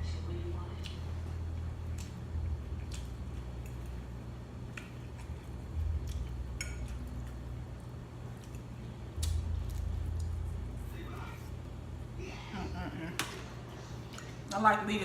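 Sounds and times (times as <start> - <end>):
steady low hum: 0.0 - 15.0
chewing and mouth sounds: 0.6 - 12.2, 13.2 - 14.6.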